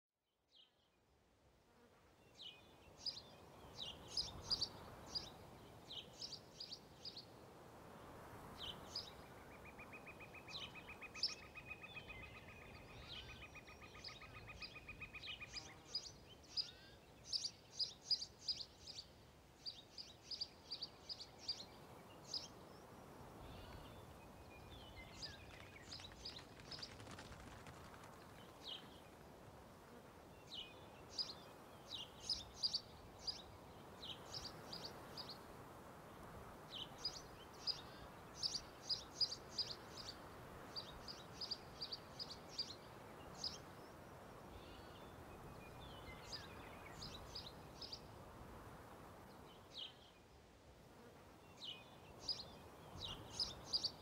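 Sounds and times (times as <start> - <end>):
soft steady hiss: 0.5 - 54.0.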